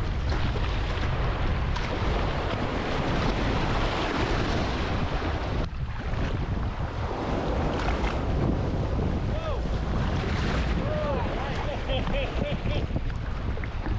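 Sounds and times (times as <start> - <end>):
ocean surf washing in: 0.0 - 13.9
wind buffeting microphone: 0.0 - 13.9.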